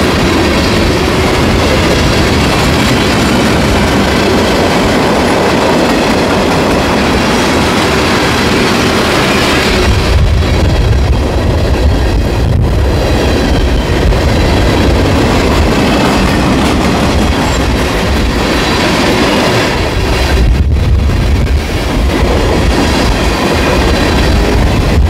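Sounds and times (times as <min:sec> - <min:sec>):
freight train rumbling on rails: 0:00.0 - 0:25.0.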